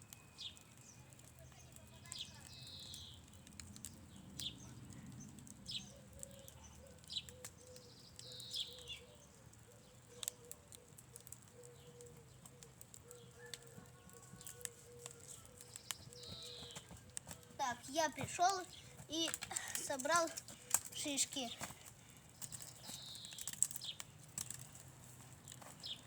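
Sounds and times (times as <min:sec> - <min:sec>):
birds chirping: 0:00.0 - 0:26.0
faint clicks: 0:00.0 - 0:26.0.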